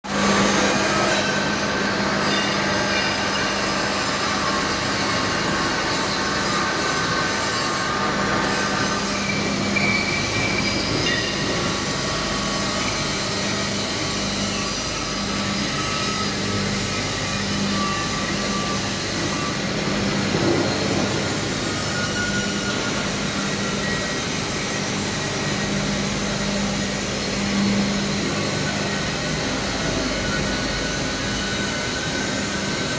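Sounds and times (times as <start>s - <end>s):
machine humming: 0.1s - 32.9s.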